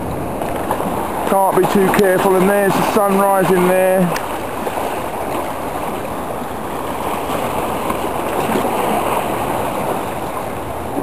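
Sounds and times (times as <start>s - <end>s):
seawater washing around rocks: 0.0s - 11.0s.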